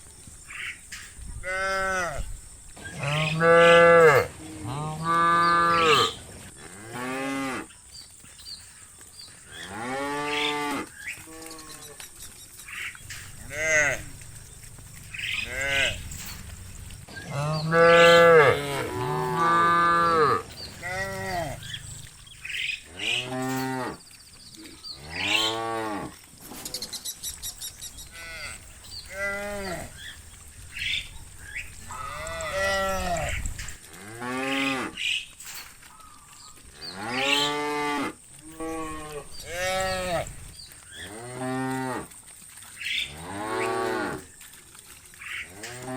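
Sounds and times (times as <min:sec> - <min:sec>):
cows mooing: 0:01.4 - 0:07.7, 0:09.5 - 0:12.0, 0:12.8 - 0:26.3, 0:28.0 - 0:35.2, 0:36.7 - 0:42.2, 0:42.8 - 0:44.4, 0:45.2 - 0:45.9.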